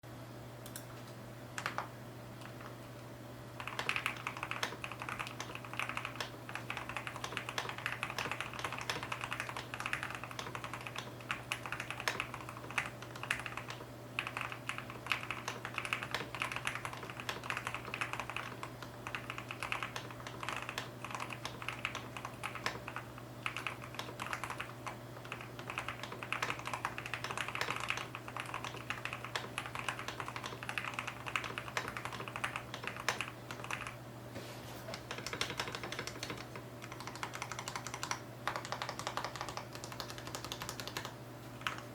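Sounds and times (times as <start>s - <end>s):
low steady hum: 0.1s - 41.9s
mechanical keyboard typing: 1.6s - 2.6s, 3.6s - 34.0s, 34.9s - 41.9s.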